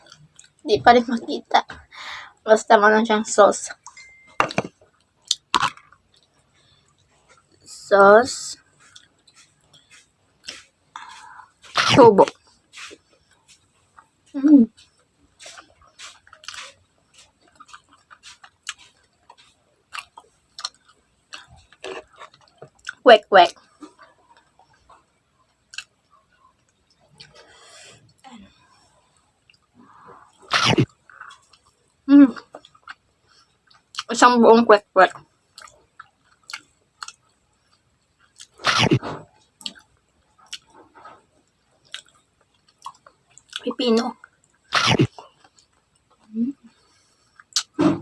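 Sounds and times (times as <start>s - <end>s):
chewing and mouth sounds: 0.0s - 0.6s, 8.5s - 34.2s, 35.1s - 47.8s.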